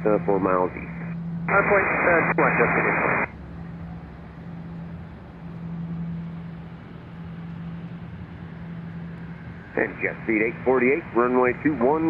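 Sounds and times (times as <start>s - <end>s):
jet engine drone: 0.0s - 12.0s.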